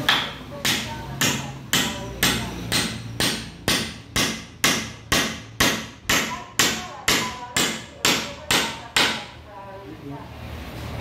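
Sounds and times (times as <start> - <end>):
hammer driving a nail into wood: 0.1 - 9.3.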